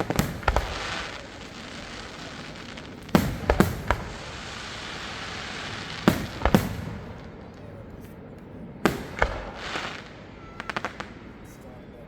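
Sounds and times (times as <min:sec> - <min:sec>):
fireworks bangs: 0:00.0 - 0:12.0
steady hiss: 0:00.0 - 0:12.0.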